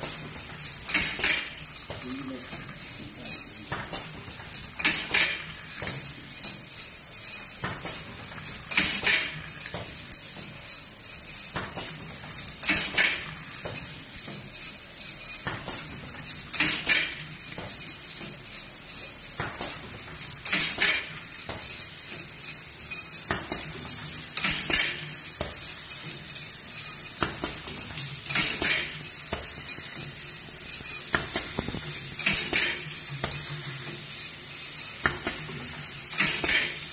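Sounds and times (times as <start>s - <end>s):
glass tubes clinking and rattling: 0.0s - 36.9s.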